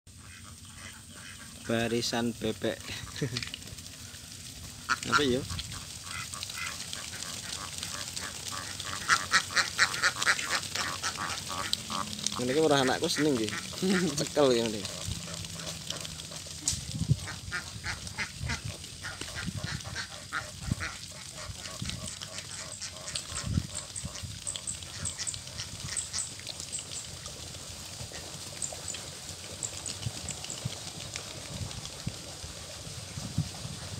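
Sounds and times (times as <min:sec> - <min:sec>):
ducks quacking: 0:00.1 - 0:29.8.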